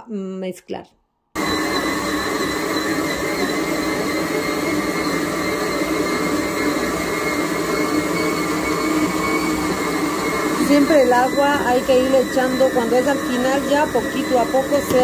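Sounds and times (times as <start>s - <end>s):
stand mixer motor hum: 1.4s - 15.0s.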